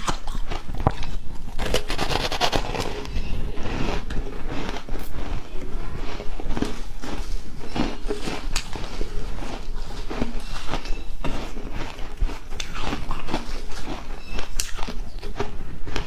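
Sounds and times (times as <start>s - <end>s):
ice crunching and chewing: 0.0s - 16.0s.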